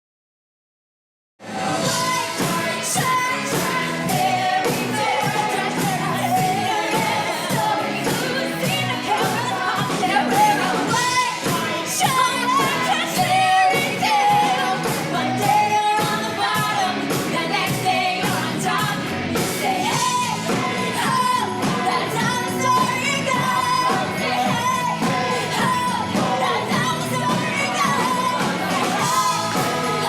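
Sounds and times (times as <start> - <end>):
pop-rock song with band: 1.4 - 30.0.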